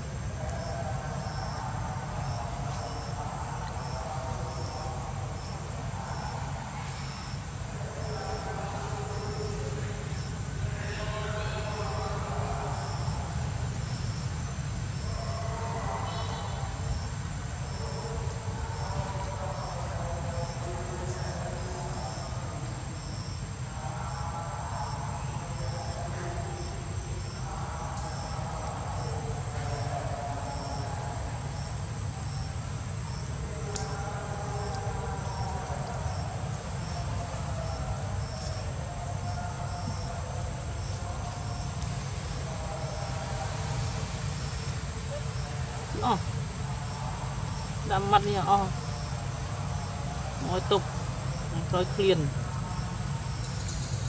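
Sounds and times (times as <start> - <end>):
insect chirping: 0.0 - 54.0
thin high insect drone: 0.0 - 54.0.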